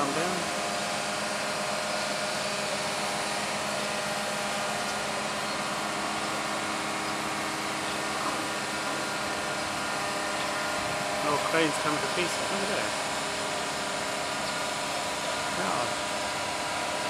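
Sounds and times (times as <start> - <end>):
crane diesel engine running: 0.0 - 17.0.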